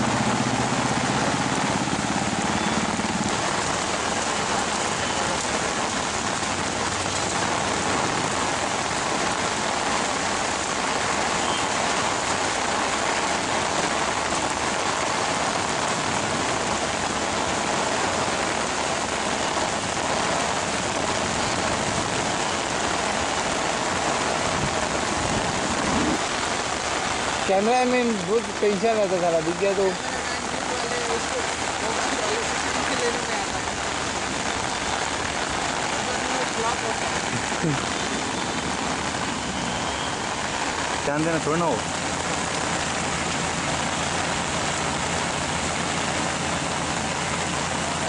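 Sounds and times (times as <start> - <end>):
heavy rain on a wet road: 0.0 - 48.0.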